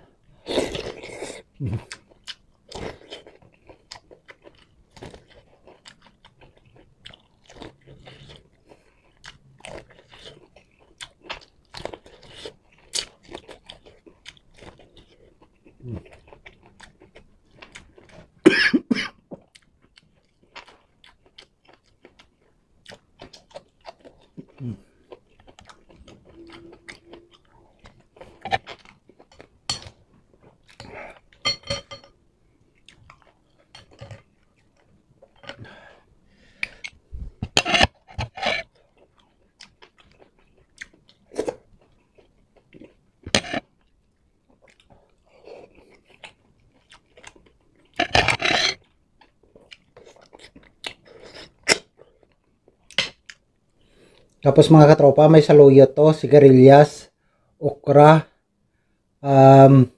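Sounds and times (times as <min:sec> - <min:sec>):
man chewing and crunching food: 0:00.0 - 0:54.8.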